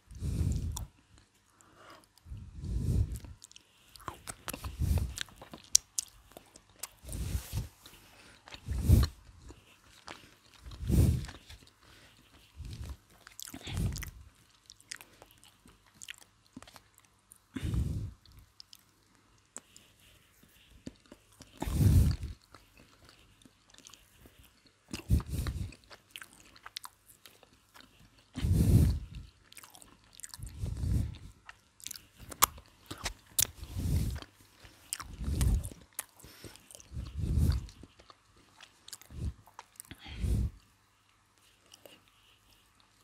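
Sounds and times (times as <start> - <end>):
chewing crispy fried chicken: 0.0 - 43.0.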